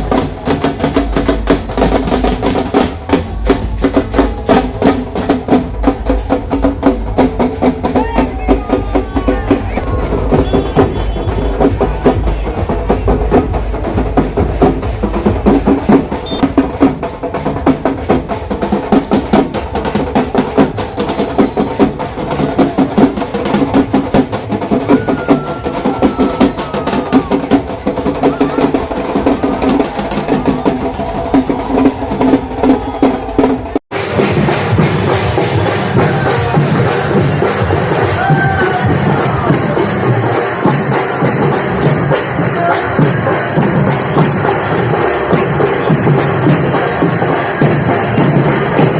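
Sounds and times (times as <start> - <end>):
music with fast drumming: 0.0 - 48.9.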